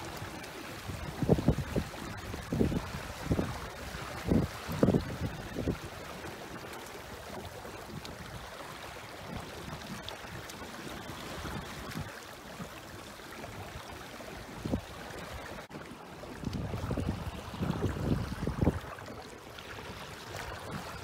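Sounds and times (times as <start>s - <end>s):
water splashing against hull: 0.0s - 21.0s
wind: 0.0s - 21.0s.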